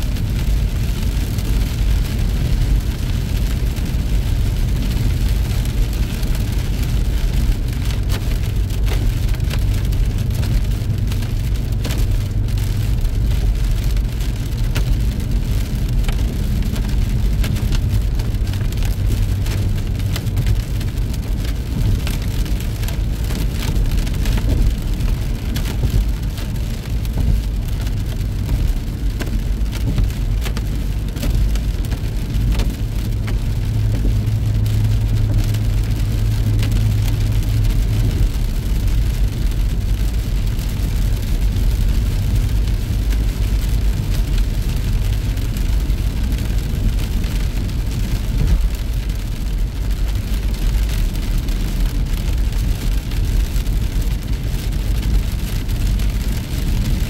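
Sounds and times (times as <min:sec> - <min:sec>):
engine and tyres rumbling on wet road: 0:00.0 - 0:57.0
raindrops ticking on car: 0:00.0 - 0:57.0.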